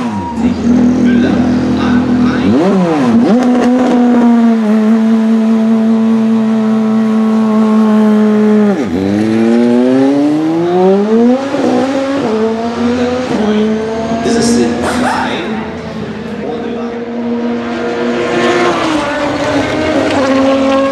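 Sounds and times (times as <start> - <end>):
race car engine revving: 0.0 - 20.9.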